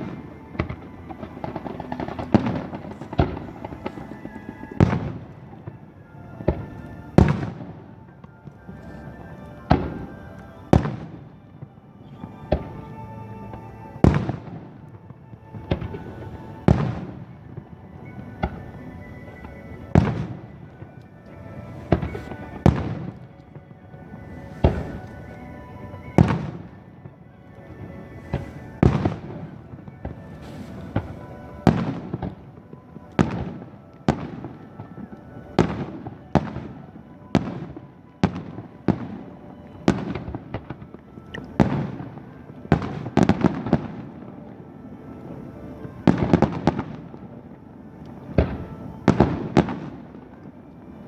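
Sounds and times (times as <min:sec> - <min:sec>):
fireworks bursting: 0:00.0 - 0:51.0
fireworks crackle: 0:00.0 - 0:51.0.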